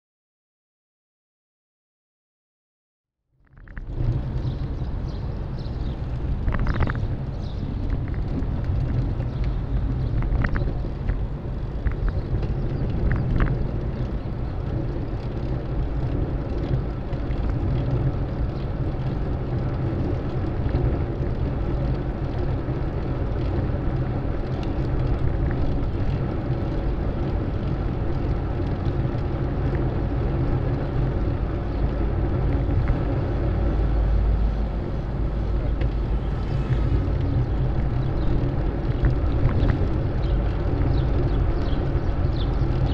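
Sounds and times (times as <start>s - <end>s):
bicycle road noise: 3.3s - 42.9s
wind rumbling on microphone: 3.4s - 42.9s.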